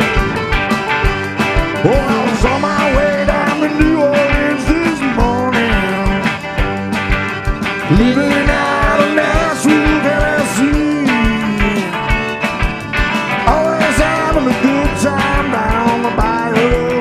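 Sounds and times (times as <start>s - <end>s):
electric guitar lead: 0.0s - 17.0s
rock band playing: 0.0s - 17.0s.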